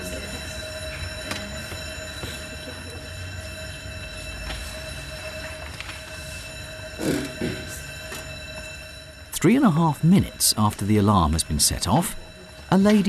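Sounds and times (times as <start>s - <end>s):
fire alarm bell ringing: 0.0s - 13.0s.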